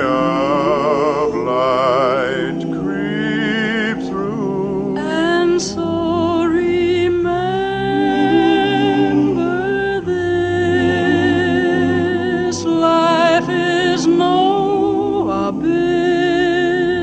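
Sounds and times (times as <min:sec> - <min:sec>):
person singing with vibrato: 0:00.0 - 0:17.0
steady musical accompaniment: 0:00.0 - 0:17.0.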